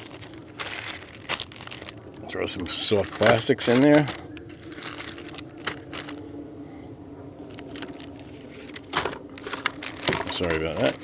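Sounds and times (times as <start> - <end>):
plastic clicks and rustles: 0.0 - 2.2, 2.8 - 6.2, 7.4 - 11.0.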